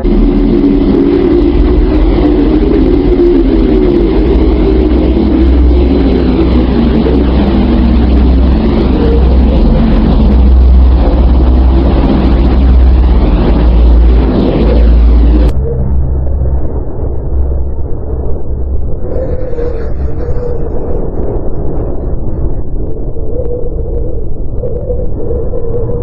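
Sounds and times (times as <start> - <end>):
dense rumbling drone: 0.0 - 26.0
wavering hum: 0.0 - 26.0.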